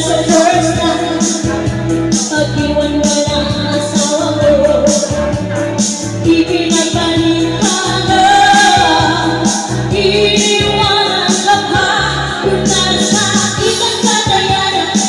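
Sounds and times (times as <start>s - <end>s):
backing track with beat and bass: 0.0s - 15.0s
woman singing karaoke: 0.0s - 15.0s.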